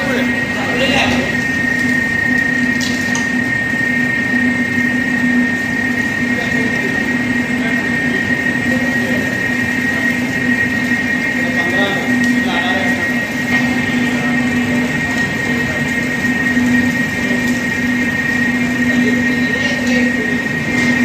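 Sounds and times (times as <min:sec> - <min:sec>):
freezer line machine whine: 0:00.0 - 0:21.0
low machine hum: 0:00.0 - 0:21.0.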